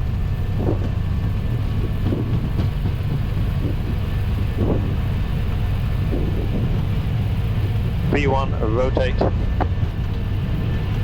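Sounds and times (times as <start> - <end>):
jet engines rumbling: 0.0 - 11.0
wheels rolling on runway: 0.0 - 11.0.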